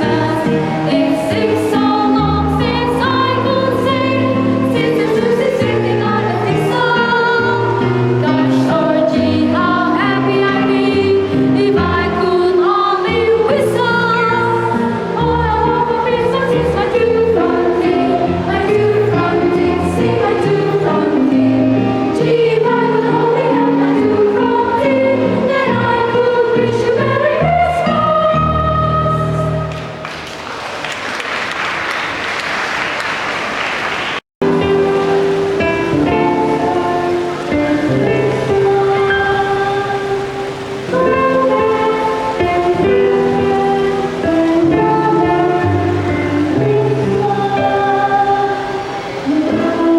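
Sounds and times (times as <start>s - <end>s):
children's choir singing: 0.0s - 30.2s, 32.5s - 49.9s.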